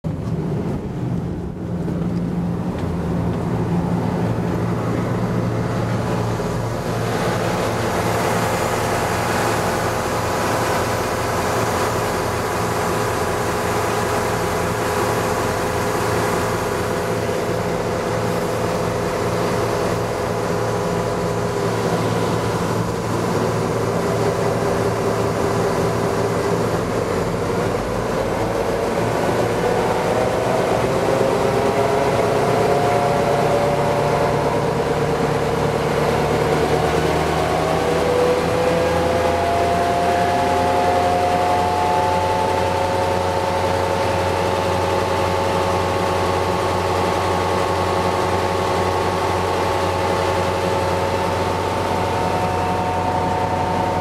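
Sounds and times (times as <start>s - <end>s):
tugboat diesel engine running: 0.1s - 54.0s.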